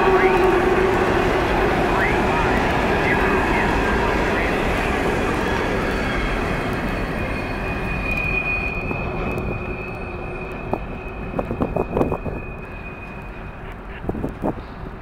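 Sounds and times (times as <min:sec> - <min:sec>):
high-pitched wheel squeal: 0:00.0 - 0:13.7
freight train rumbling past: 0:00.0 - 0:15.0.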